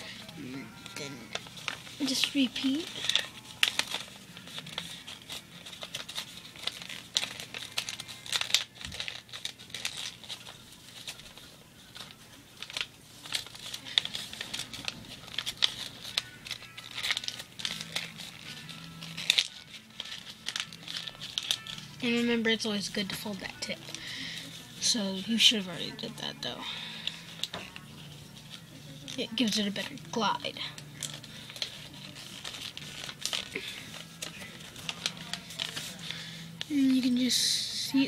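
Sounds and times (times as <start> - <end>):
paper being folded and crinkling: 0.0 - 38.0.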